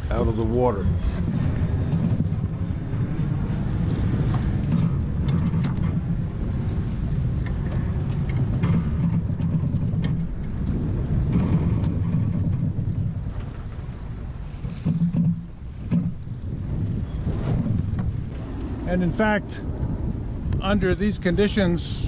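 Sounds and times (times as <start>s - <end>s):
sea washing past boat: 0.0s - 22.0s
wind buffeting microphone: 0.0s - 22.0s.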